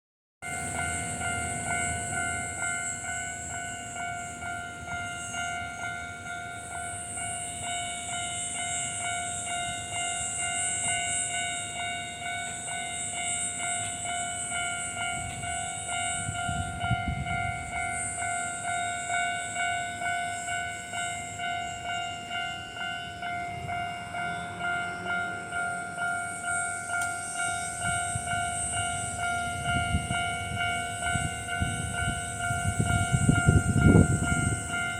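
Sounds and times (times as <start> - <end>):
level crossing bell ringing: 0.4 - 34.9
low train rumbling: 0.4 - 34.9.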